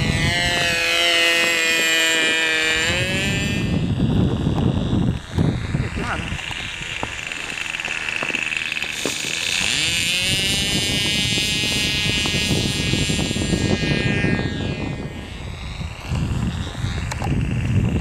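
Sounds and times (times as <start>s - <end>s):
model plane motor whine: 0.0s - 18.0s
steady low rumble: 2.7s - 18.0s.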